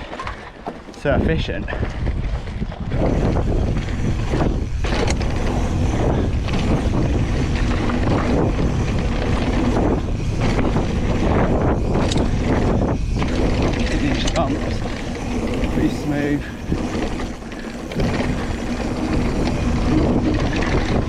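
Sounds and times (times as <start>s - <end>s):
bike knocks and rattles: 0.0s - 21.0s
wind buffeting microphone: 0.0s - 21.0s.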